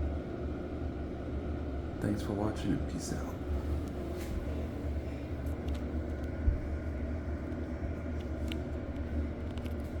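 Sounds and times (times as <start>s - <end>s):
exhaust fan humming: 0.0s - 10.0s.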